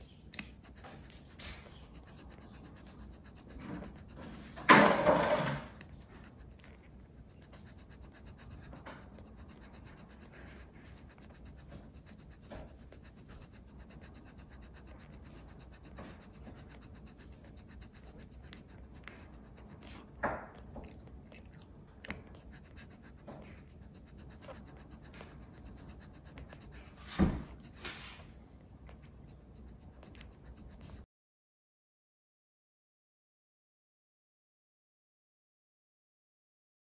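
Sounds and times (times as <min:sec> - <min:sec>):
puppies suckling and smacking: 0:00.0 - 0:31.1.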